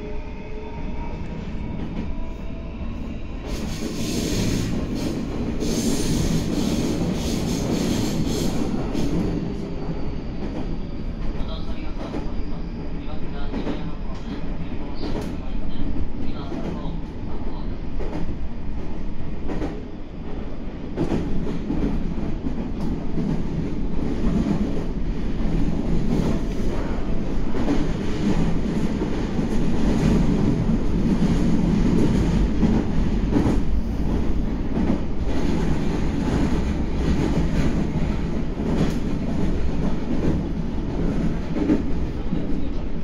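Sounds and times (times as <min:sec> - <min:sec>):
train running rumble: 0:01.0 - 0:43.0.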